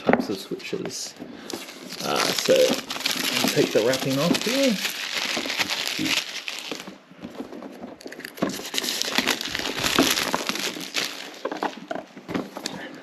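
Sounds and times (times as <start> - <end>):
wrapping crinkling and tearing: 1.4 - 12.7.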